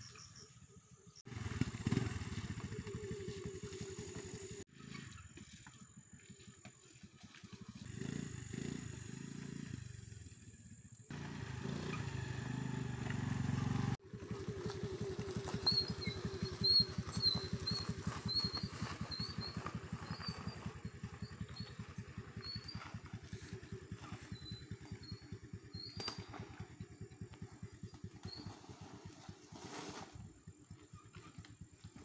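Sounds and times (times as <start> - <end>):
scooter engine revving: 1.2 - 5.6, 7.0 - 32.0.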